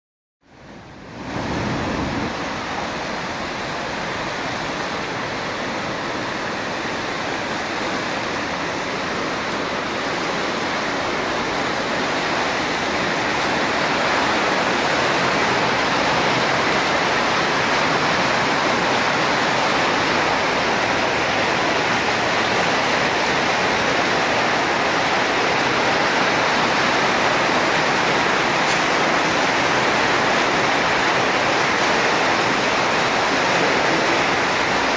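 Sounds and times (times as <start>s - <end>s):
river water rushing: 0.5s - 34.9s.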